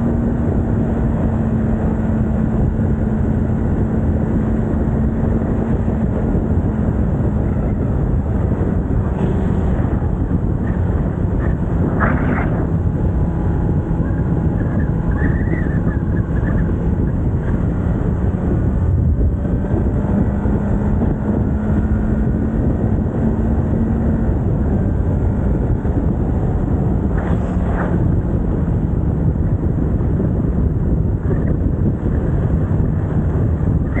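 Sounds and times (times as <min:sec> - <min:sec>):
wind noise on microphone: 0:00.0 - 0:34.0.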